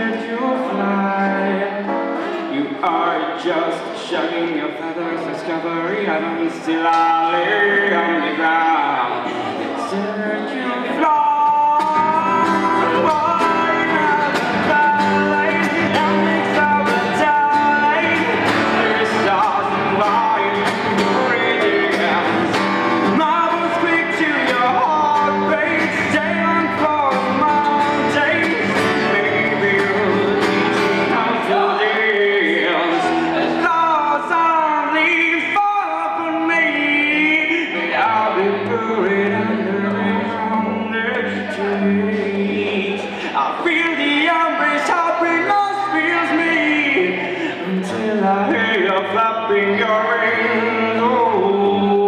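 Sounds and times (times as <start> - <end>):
acoustic guitar strumming: 0.0 - 52.0
man singing: 0.0 - 52.0.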